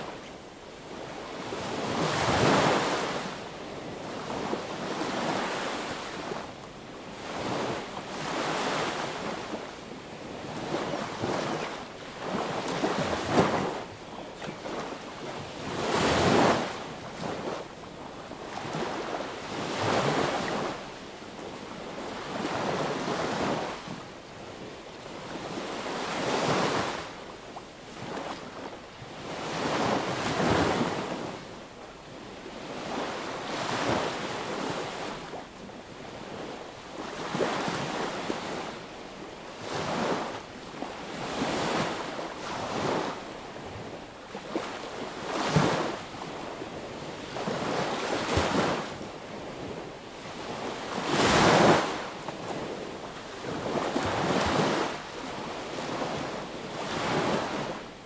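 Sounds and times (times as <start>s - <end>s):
small waves breaking on a beach: 0.0s - 58.0s.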